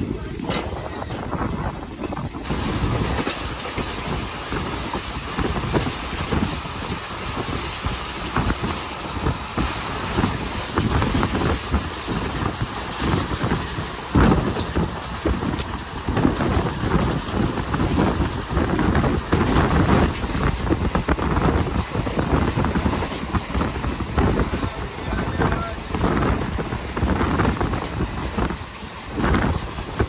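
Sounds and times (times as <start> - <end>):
train wheels rumbling and rattling: 0.0 - 30.0
wind buffeting microphone: 0.0 - 30.0.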